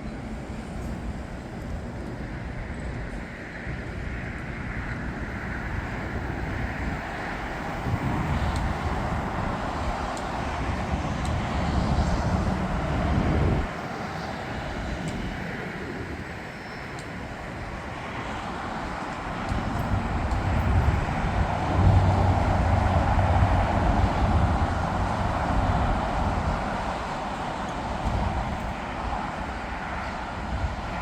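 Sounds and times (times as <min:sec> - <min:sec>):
jet engine rumble: 0:00.0 - 0:31.0.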